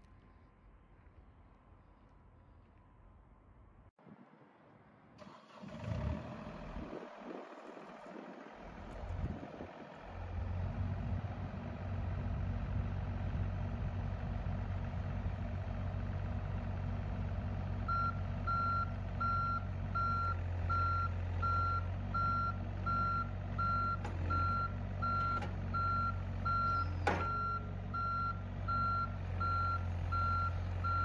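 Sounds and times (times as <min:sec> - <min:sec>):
diesel engine running: 0:05.2 - 0:31.0.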